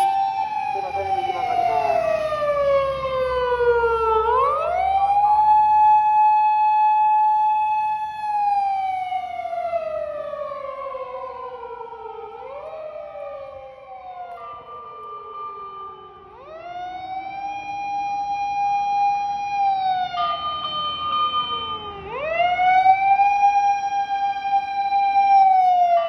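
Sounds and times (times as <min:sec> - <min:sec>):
fire engine sirens wailing: 0:00.0 - 0:26.0.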